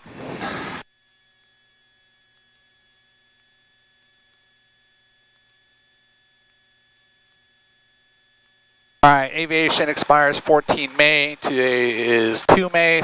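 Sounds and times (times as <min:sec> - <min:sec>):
electronic chirp: 0:00.0 - 0:13.0
faint whine and hum: 0:00.0 - 0:13.0.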